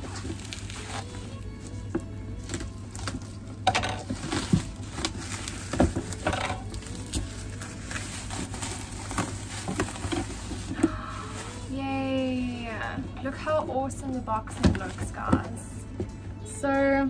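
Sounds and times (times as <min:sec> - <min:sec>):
bubble wrap crackling: 0:00.0 - 0:15.5.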